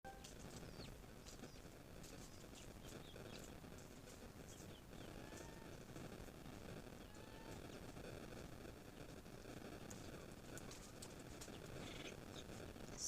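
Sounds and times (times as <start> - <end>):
small birds chirping faintly: 0.0 - 13.0
low background hiss: 0.1 - 13.0.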